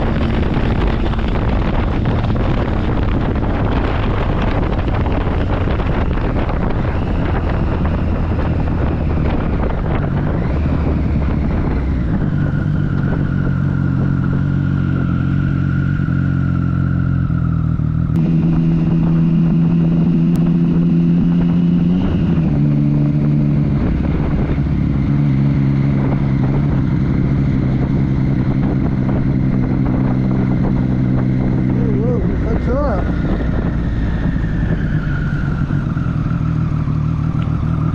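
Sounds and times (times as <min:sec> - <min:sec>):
motorcycle engine running: 0:00.0 - 0:37.9
wind noise on microphone: 0:00.0 - 0:37.9.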